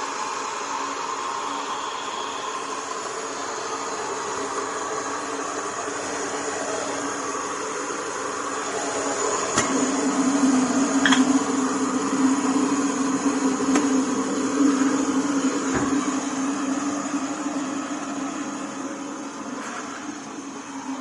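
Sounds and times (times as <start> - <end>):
electric kettle heating water: 0.0 - 21.0.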